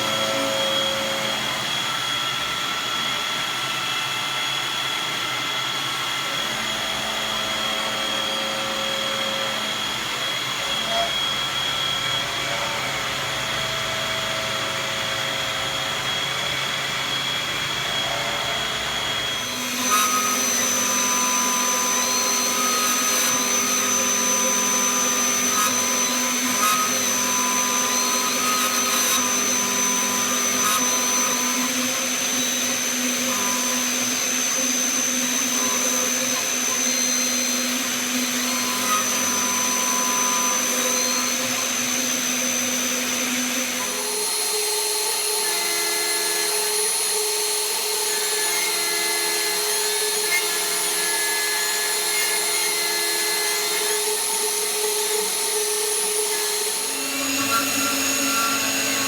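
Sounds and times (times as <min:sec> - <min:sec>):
milling machine whine: 0:00.0 - 0:59.0.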